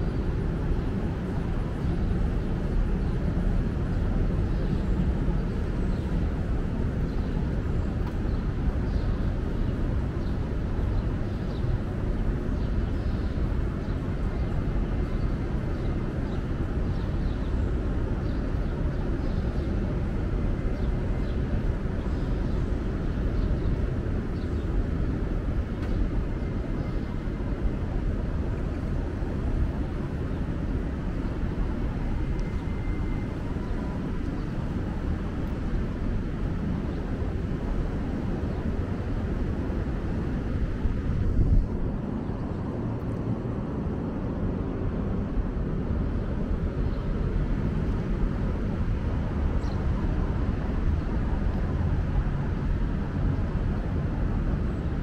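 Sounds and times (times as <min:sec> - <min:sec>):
low rumble of city ambience: 0:00.0 - 0:55.0.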